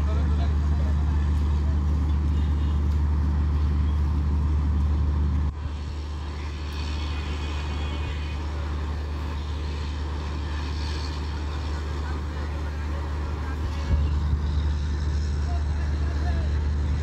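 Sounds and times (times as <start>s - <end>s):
diesel locomotive engine humming: 0.0s - 17.0s.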